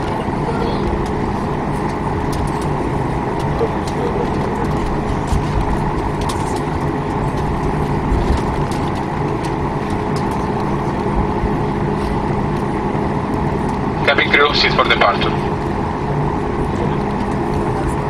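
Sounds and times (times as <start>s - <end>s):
jet engine hum in cabin: 0.0s - 18.0s.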